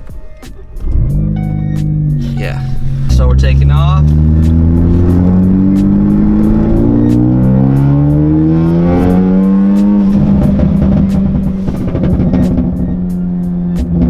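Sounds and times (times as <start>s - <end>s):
car engine accelerating: 0.8s - 14.0s.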